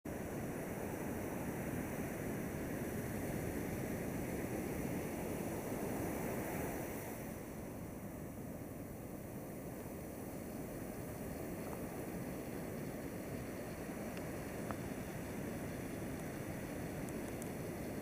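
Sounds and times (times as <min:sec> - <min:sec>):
ocean surf washing on beach: 0:00.1 - 0:18.0.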